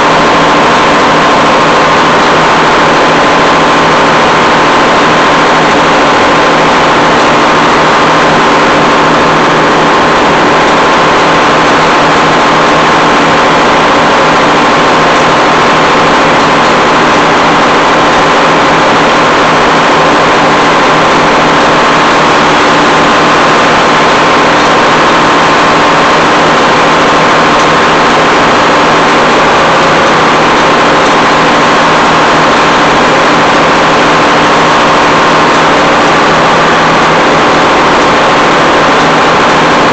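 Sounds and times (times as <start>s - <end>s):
diesel engine running loudly: 0.0s - 39.9s.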